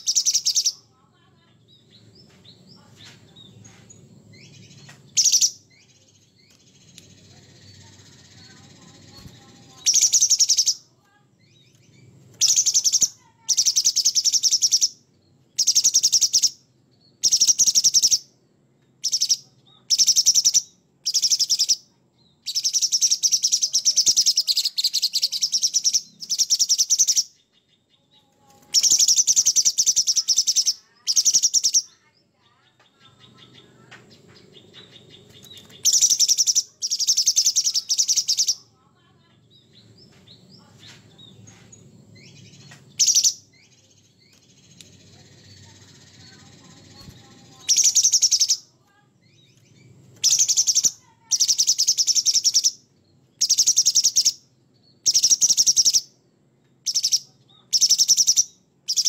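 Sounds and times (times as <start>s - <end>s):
bird singing chattering notes: 0.0s - 59.0s.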